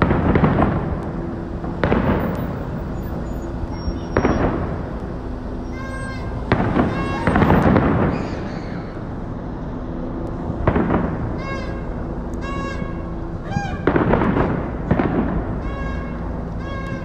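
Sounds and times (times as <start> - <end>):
firework booms with echo: 0.0 - 9.2, 10.4 - 12.0, 12.8 - 17.0.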